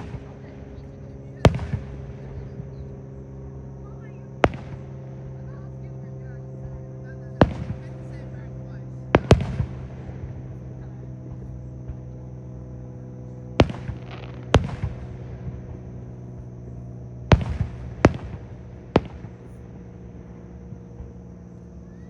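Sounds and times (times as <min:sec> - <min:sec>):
fireworks shells booming: 0:00.0 - 0:21.8
steady low hum: 0:00.0 - 0:22.0.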